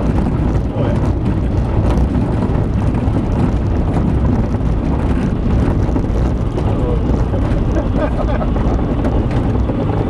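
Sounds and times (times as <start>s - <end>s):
aircraft engine and propeller: 0.0s - 10.0s
wheels rumbling over snow: 0.0s - 10.0s.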